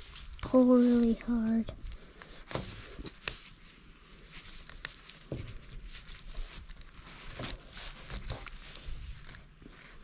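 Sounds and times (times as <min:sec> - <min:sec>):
small clicks and rustles: 0:00.0 - 0:10.0
wet fish handling noise: 0:00.0 - 0:10.0.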